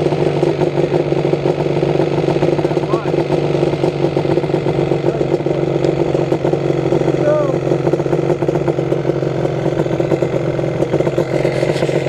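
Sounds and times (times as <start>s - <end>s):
atv engines idling: 0.0s - 12.0s.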